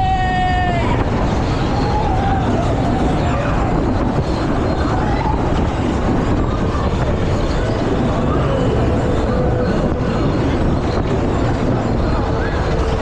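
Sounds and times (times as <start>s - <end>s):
faint voices: 0.0s - 13.0s
wind rushing on microphone: 0.0s - 13.0s.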